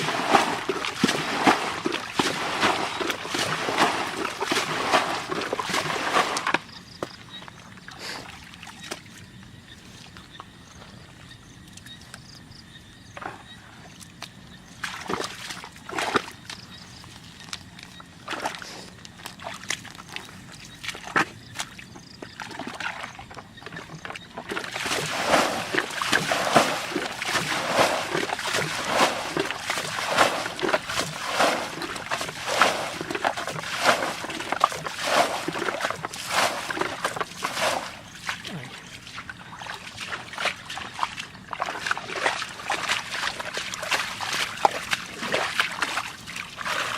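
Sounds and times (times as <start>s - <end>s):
water splashing and sloshing: 0.0s - 12.4s, 13.0s - 46.9s.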